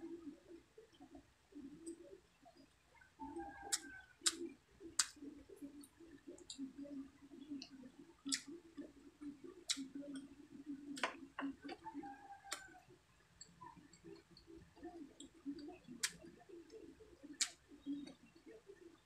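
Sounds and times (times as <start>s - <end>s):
soft chewing: 0.1s - 19.0s.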